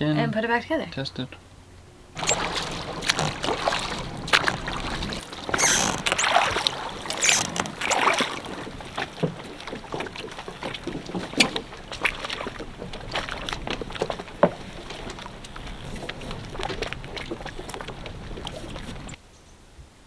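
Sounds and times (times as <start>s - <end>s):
oars splashing: 1.9s - 19.2s
boat knocks and clicks: 2.2s - 19.2s.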